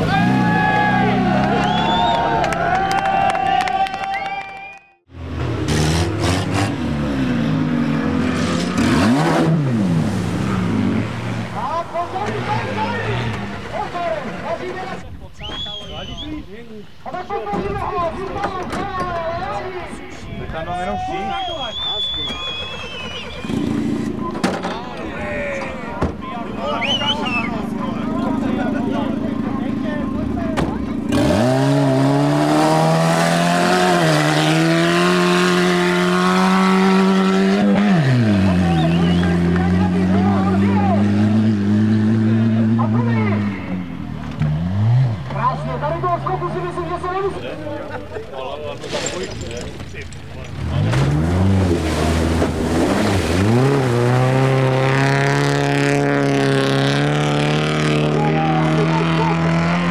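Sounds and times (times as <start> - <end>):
racing vehicle engine revving: 0.0 - 3.2, 5.1 - 15.0, 21.9 - 48.0, 50.5 - 59.9.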